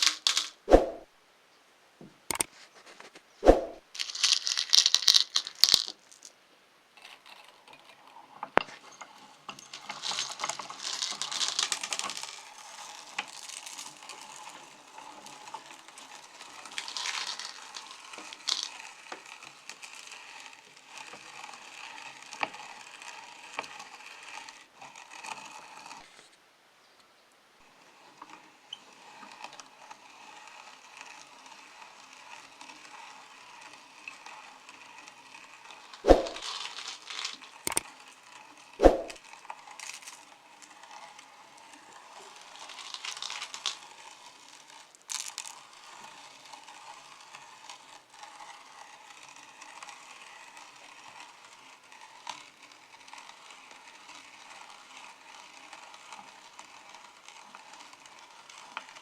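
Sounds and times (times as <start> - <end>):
meat grinder crushing candies: 0.0 - 0.6, 3.9 - 6.3, 8.7 - 26.1, 27.8 - 59.0.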